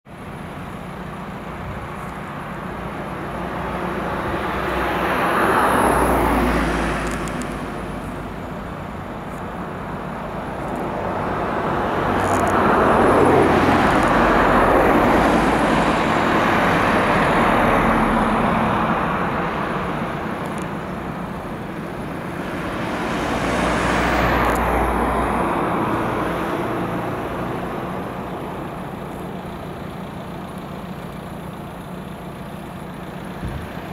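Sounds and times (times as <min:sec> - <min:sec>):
road vehicles passing close: 0:00.1 - 0:33.9.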